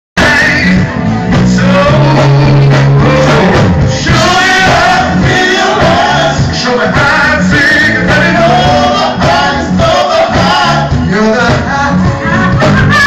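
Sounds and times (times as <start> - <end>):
live blues band playing: 0.2 - 13.0
low bass notes: 0.2 - 13.0
person singing: 0.2 - 13.0.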